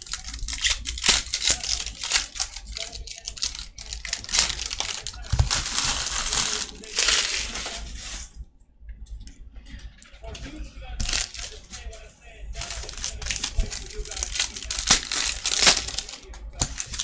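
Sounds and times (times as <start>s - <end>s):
foil wrappers tearing and crumpling: 0.0s - 8.3s, 11.0s - 11.9s, 12.6s - 17.0s.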